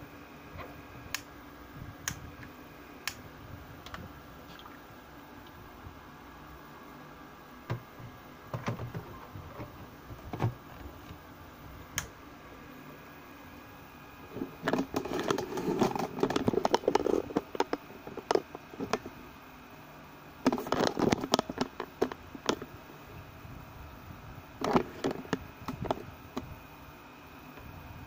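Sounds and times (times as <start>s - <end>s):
faint steady hum: 0.0s - 28.0s
humidifier tank gurgling and bubbling: 0.1s - 28.0s.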